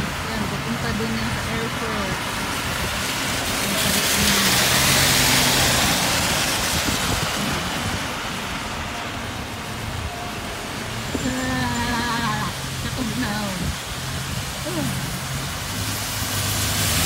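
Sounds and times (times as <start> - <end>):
car passing: 0.0 - 17.0
tyres hissing on wet road: 0.0 - 17.0.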